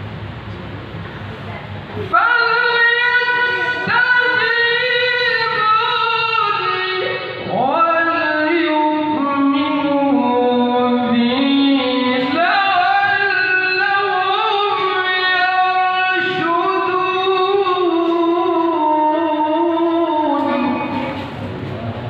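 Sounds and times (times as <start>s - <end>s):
man chanting melodically over loudspeaker: 2.0s - 22.0s.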